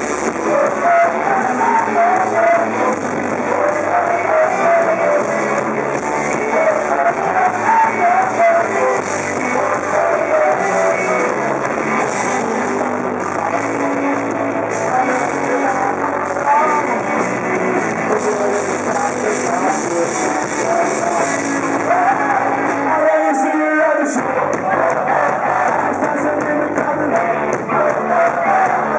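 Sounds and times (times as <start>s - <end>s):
electric guitars: 0.0s - 28.9s
loud rock band: 0.0s - 28.9s
person singing: 0.0s - 28.9s.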